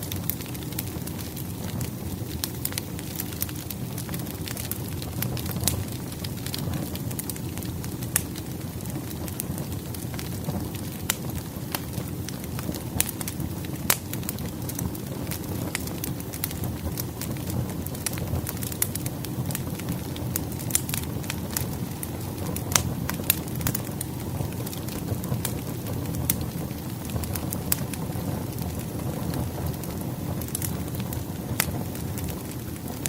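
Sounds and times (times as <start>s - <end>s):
burning wood crackling and popping: 0.0s - 33.0s
low rumble of flames: 0.0s - 33.0s.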